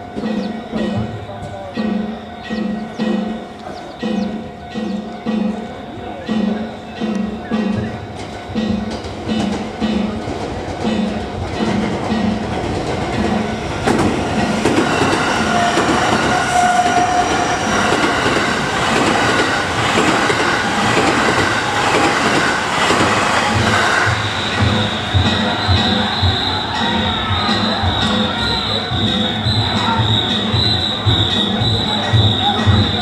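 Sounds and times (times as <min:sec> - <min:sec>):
electric train passing: 0:00.0 - 0:33.0
train wheels clacking over rail joints: 0:00.0 - 0:33.0.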